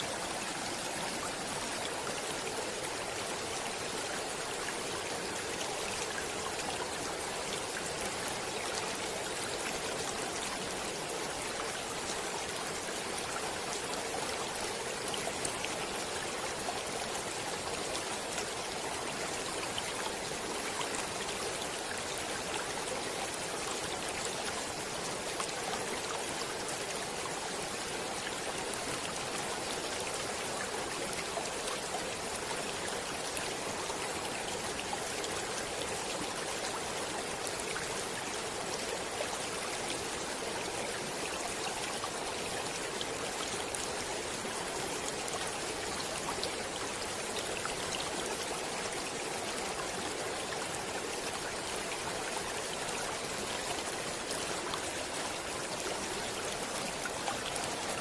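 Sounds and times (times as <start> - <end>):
stream water running over stones: 0.0 - 58.0.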